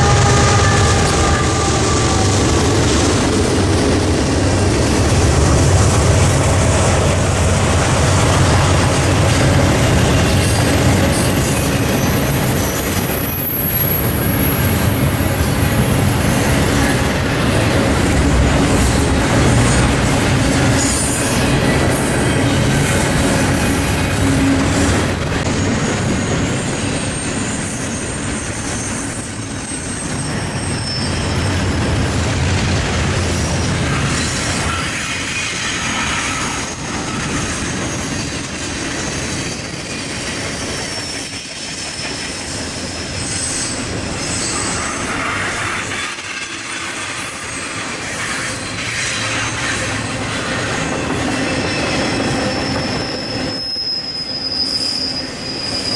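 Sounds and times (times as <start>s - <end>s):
high wheel squeal: 0.0s - 25.5s, 26.8s - 55.9s
freight train rumbling past: 0.0s - 55.9s.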